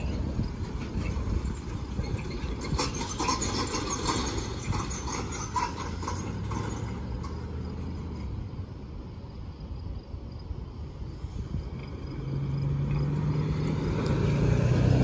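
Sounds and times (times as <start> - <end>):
trailer load clattering: 0.0 - 15.0
truck engine humming: 0.0 - 15.0.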